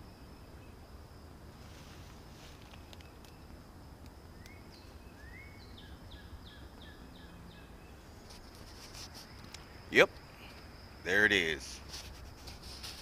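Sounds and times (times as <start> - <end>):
high insect drone: 0.0 - 13.0
songbird singing: 0.0 - 13.0.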